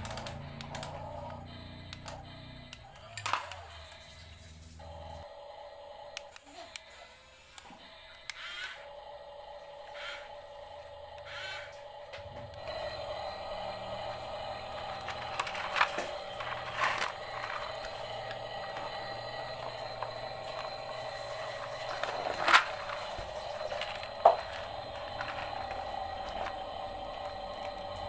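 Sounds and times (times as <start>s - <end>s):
toy electric motor whirring: 0.0s - 28.0s.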